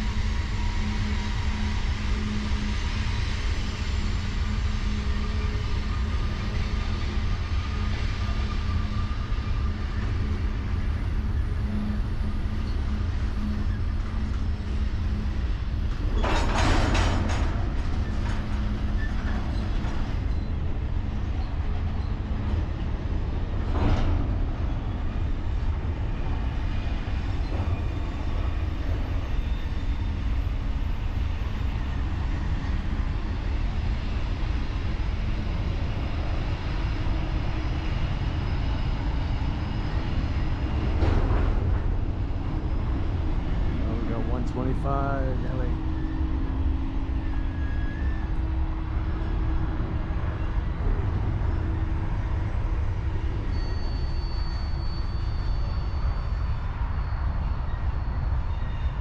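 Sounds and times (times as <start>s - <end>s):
constant hum: 0.0s - 59.0s
freight train rumbling: 0.0s - 59.0s.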